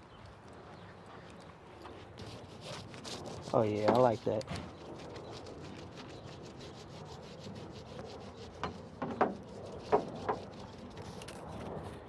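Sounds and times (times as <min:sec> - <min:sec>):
trim material scraping by hand: 0:02.2 - 0:12.0.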